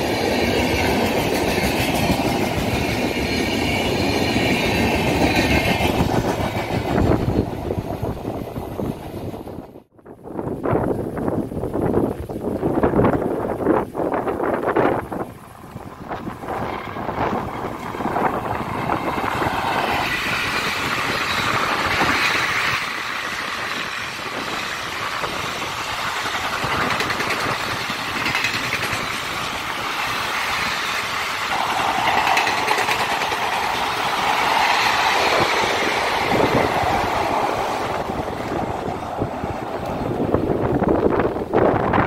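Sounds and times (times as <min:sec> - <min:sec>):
wheels rattling over track: 0:00.0 - 0:09.8, 0:12.2 - 0:42.0
train passing at speed: 0:00.0 - 0:09.9, 0:12.8 - 0:42.0.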